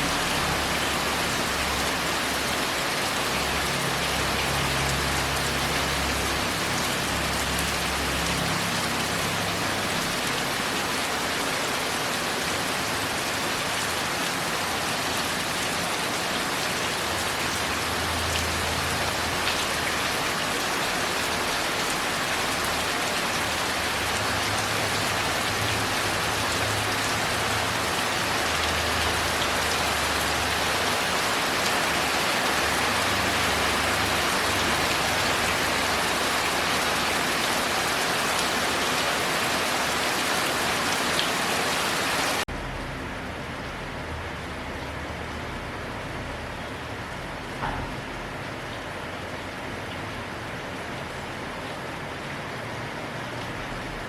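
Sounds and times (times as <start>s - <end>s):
heavy rain on a tile roof: 0.0s - 54.0s.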